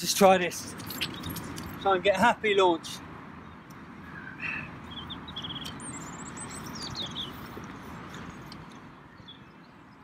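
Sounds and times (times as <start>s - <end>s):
bird chirping: 0.6s - 2.0s, 3.3s - 10.0s.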